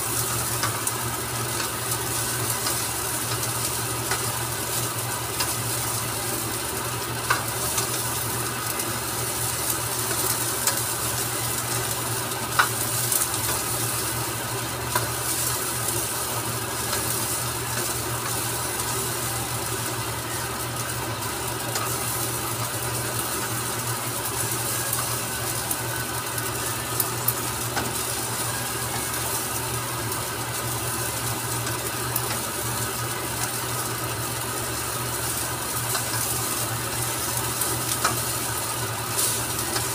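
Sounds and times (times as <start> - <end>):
rice sizzling in a wok: 0.0 - 39.9.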